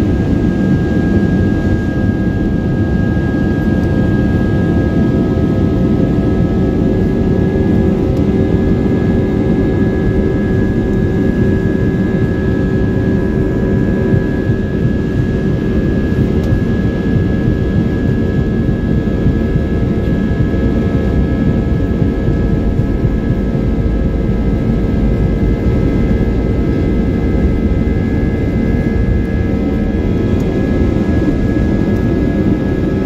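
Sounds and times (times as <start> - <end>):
jet engines at takeoff power: 0.0 - 33.0.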